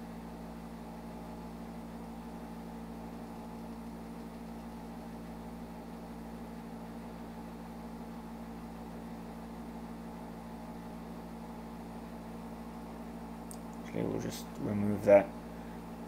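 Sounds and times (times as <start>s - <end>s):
low hum with faint hiss: 0.0s - 16.0s.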